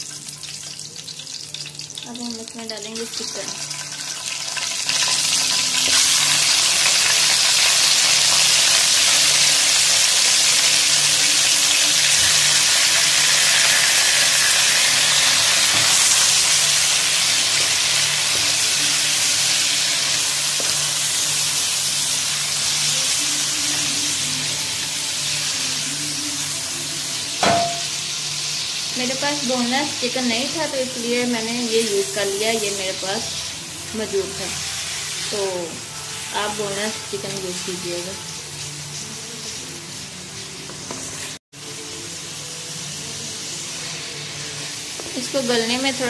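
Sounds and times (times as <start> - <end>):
chicken sizzling in hot oil: 0.0 - 46.0.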